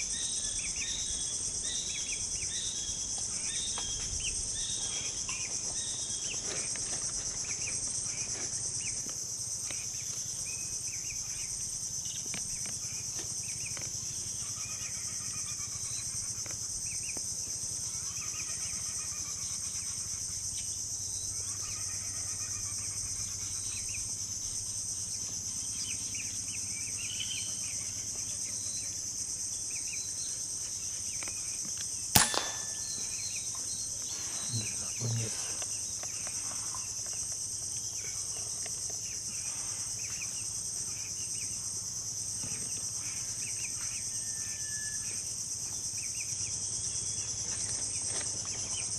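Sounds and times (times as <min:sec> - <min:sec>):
insect chorus drone: 0:00.0 - 0:48.9.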